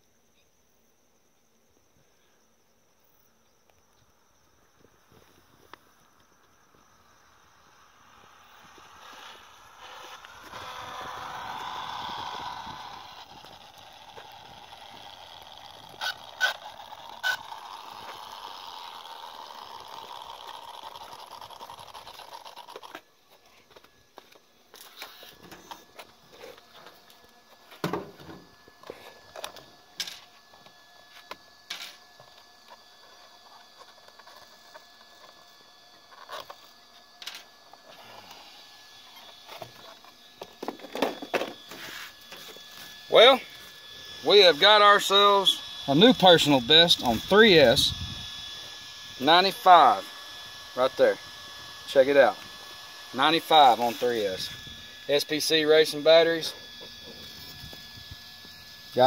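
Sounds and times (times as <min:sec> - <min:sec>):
electric motor whining: 0:04.8 - 0:59.0.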